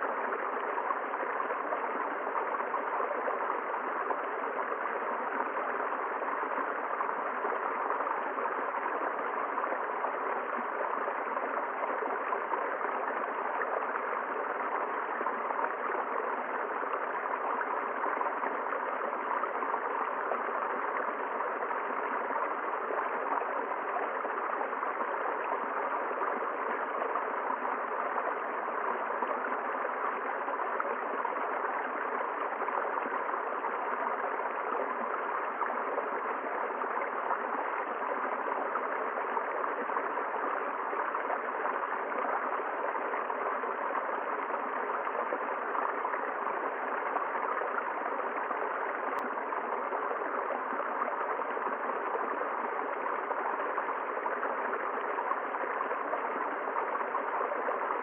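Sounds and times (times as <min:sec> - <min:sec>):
river flowing: 0:00.0 - 0:58.0.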